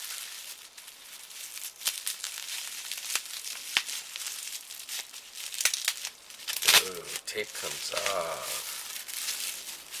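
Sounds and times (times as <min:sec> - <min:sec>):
packing tape peeling: 0:00.0 - 0:10.0
wrapping crinkling: 0:00.0 - 0:10.0.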